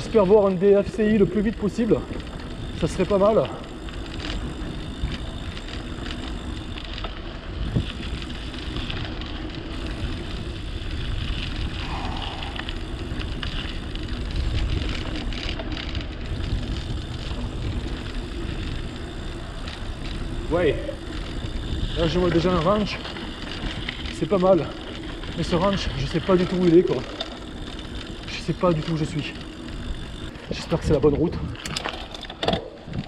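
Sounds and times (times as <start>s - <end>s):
bike rattling: 0.0s - 33.0s
tyres rumbling on stones: 0.0s - 33.0s.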